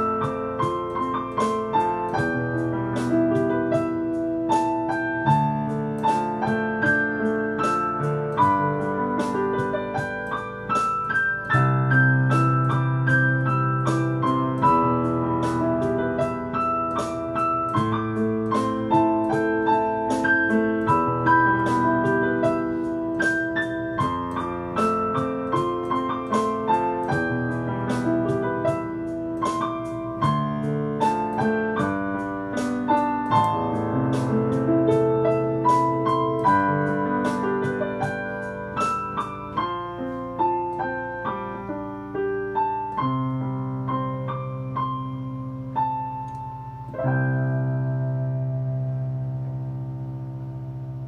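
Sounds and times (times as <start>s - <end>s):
digital piano ballad: 0.0s - 51.0s.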